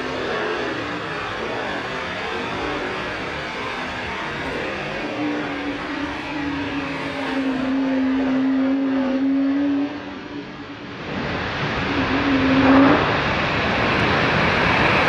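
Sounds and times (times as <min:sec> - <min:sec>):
jet engine whine: 0:00.0 - 0:15.0
rushing roar: 0:00.0 - 0:15.0.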